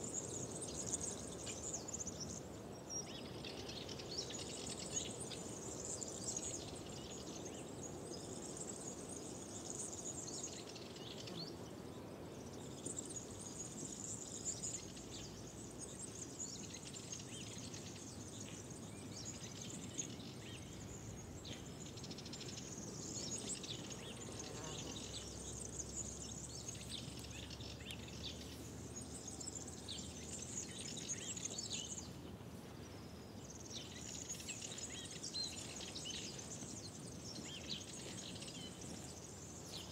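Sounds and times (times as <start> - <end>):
soft outdoor background noise: 0.0 - 39.9
songbirds chirping and singing: 0.0 - 39.9.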